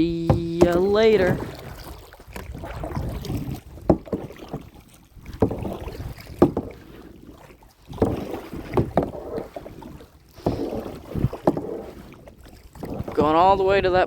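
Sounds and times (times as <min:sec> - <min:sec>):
kayak paddle splashing: 0:00.0 - 0:14.0.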